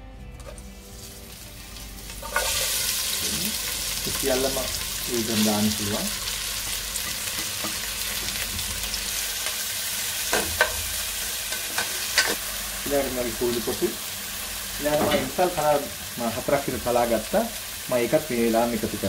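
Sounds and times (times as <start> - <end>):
vegetables sizzling in hot oil: 0.4 - 19.0.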